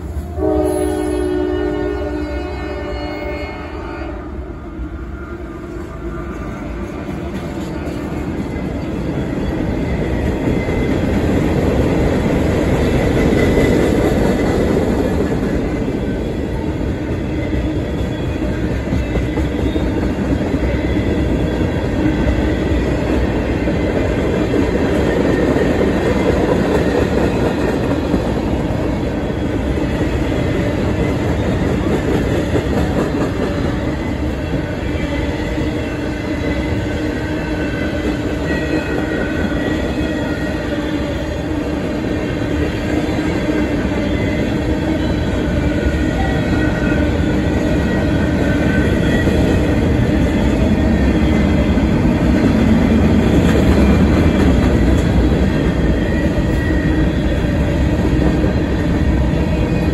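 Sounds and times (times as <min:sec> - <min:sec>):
diesel locomotive passing: 0:00.0 - 0:59.9
train wheels on rails: 0:00.0 - 0:59.9.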